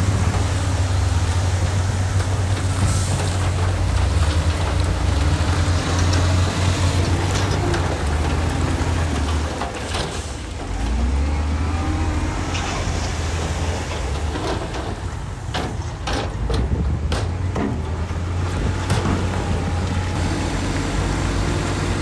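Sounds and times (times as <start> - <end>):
heavy diesel machinery engine: 0.0 - 22.0.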